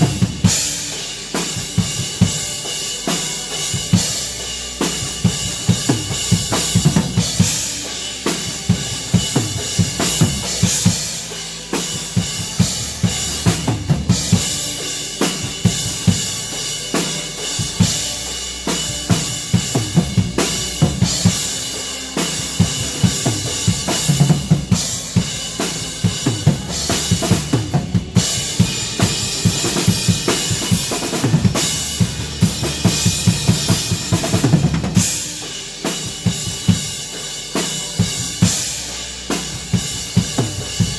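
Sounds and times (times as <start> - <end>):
drum kit playing: 0.0 - 40.9.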